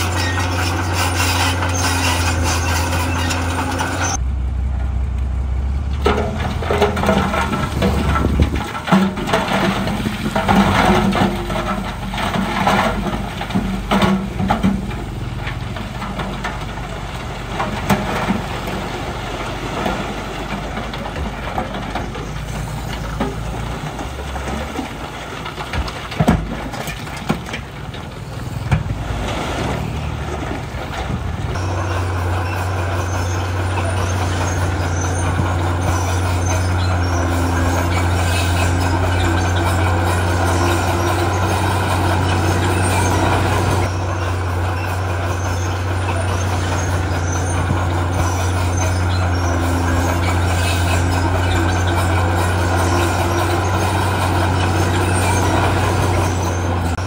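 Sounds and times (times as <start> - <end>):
diesel earthmoving machinery running: 0.0 - 57.0.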